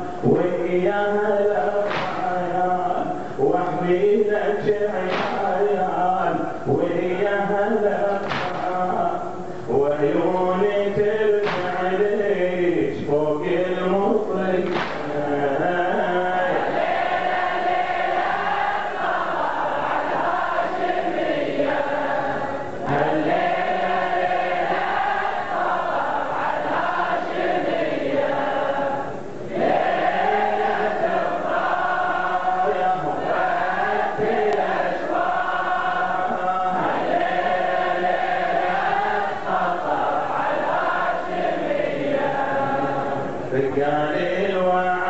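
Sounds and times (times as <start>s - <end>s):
men chanting a lament: 0.0s - 45.0s.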